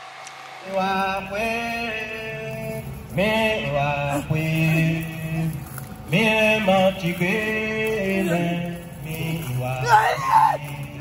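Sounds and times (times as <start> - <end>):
voices singing slow chant: 0.6 - 11.0.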